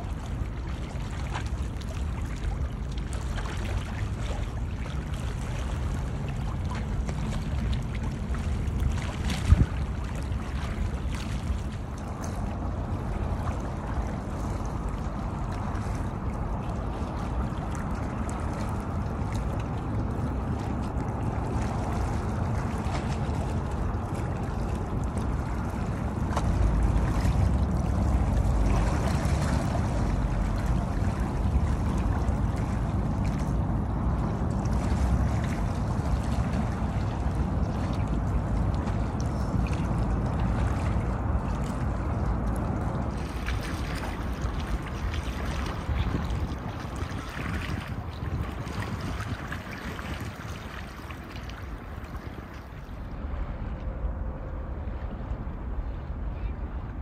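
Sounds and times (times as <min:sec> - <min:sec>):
water lapping against concrete: 0:00.0 - 0:54.3
wind on microphone: 0:00.0 - 0:57.0.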